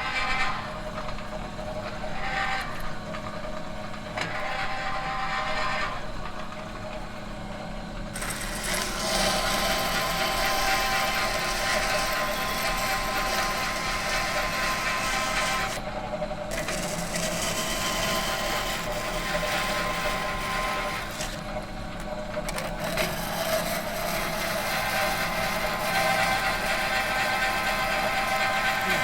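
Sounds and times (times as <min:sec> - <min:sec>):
workshop machine humming: 0:00.0 - 0:29.0.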